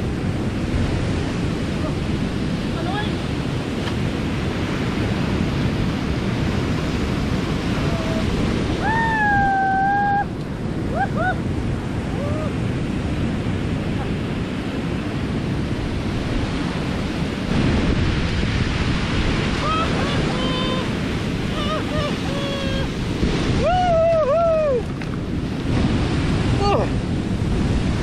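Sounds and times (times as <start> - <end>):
surf breaking on rocky shore: 0.0 - 28.0
wind buffeting microphone: 0.0 - 28.0.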